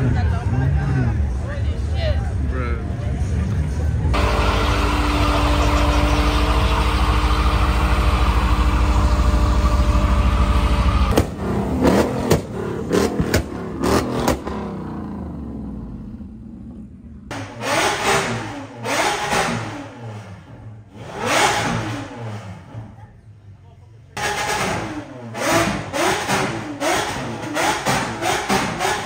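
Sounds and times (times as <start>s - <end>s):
exhaust throttle blips: 0.0s - 29.0s
car engine at high revs: 4.0s - 23.1s, 24.2s - 29.0s.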